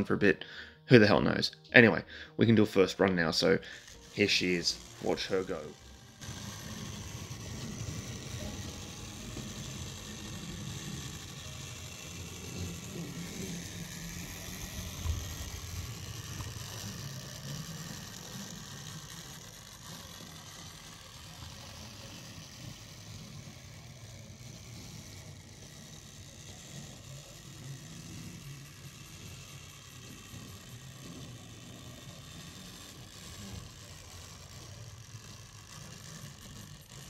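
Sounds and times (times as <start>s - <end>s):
toy tram motor whirring: 2.5s - 37.0s
wheels rolling on rails: 3.1s - 37.0s.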